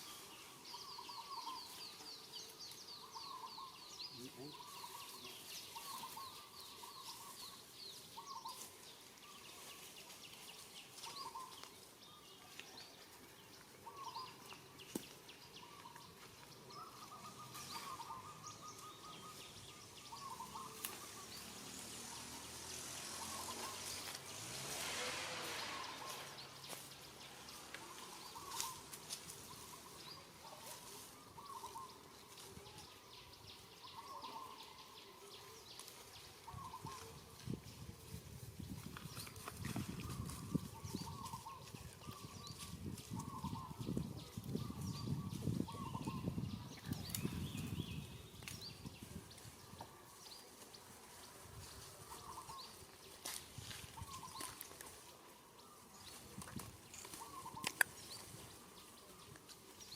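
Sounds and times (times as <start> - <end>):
faint outdoor background: 0.0 - 59.9.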